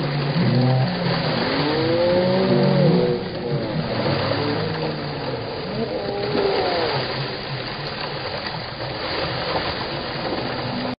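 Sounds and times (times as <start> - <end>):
fountain jets splashing: 0.0 - 11.0.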